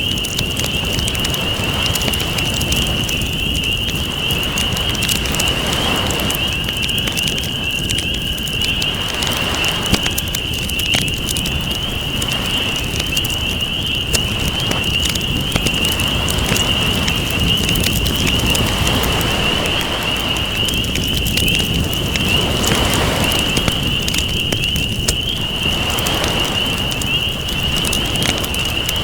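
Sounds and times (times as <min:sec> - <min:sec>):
campfire crackling and popping: 0:00.0 - 0:29.0
ocean waves: 0:00.2 - 0:29.0.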